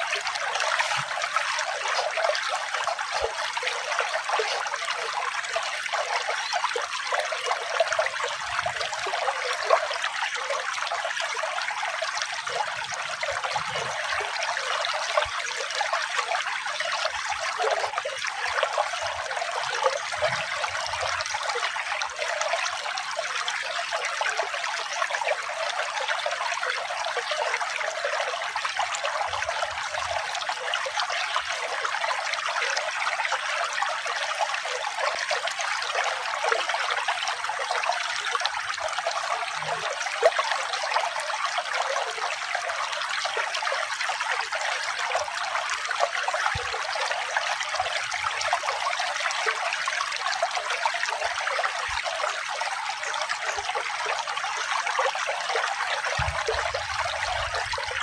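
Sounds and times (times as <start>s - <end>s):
running water trickling: 0.0s - 58.0s.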